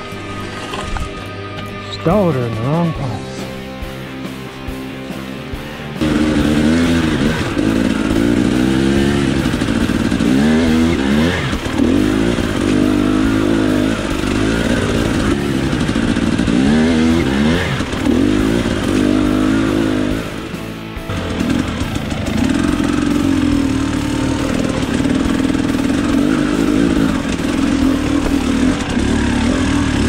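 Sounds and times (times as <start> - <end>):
dirt bike engine revving: 2.1 - 30.0.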